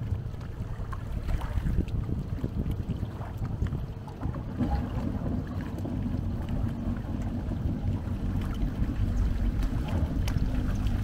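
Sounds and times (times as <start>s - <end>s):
engine rumble: 0.0s - 11.0s
wind buffeting microphone: 0.0s - 11.0s.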